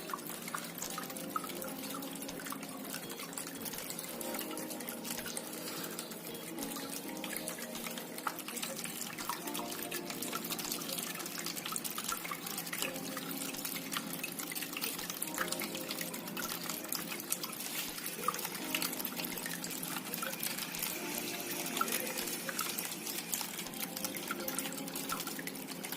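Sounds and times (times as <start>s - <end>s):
water drips: 0.0s - 25.9s
water trickling in small fountain: 0.0s - 25.9s.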